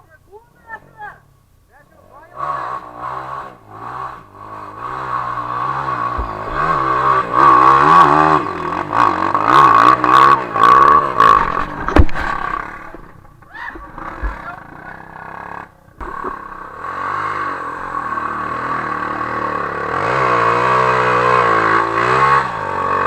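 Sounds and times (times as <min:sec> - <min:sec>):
motorcycle engine revving: 0:02.2 - 0:23.0.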